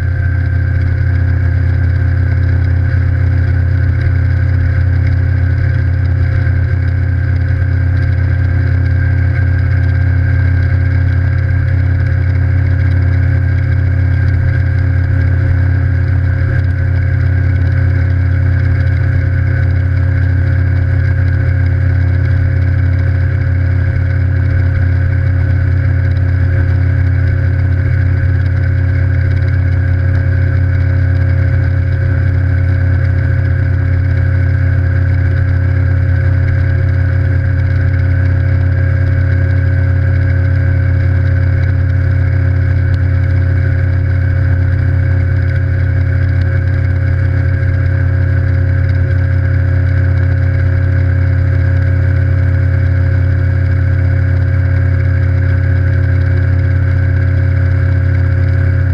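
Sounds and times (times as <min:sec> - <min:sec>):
outboard motor running: 0:00.0 - 0:58.9.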